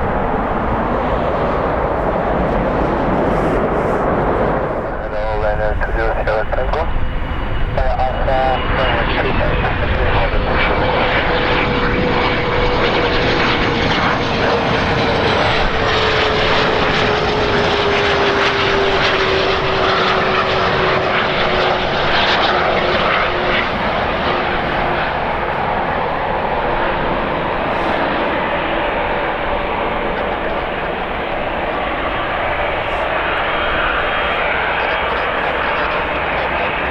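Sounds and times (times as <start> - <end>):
airliner engines roaring: 0.0 - 36.9
jet engine whine: 0.0 - 36.9.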